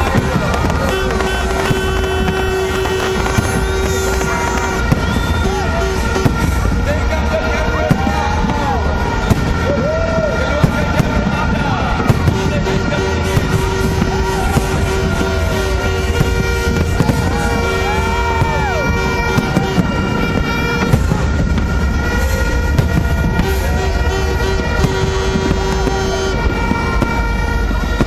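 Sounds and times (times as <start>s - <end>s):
fireworks bangs and crackles: 0.0s - 28.0s
horns tooting: 0.0s - 28.0s.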